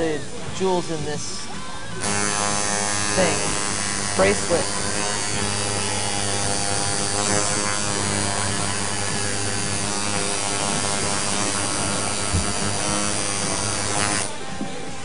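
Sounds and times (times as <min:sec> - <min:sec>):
tattoo machine buzzing: 0:02.0 - 0:14.5.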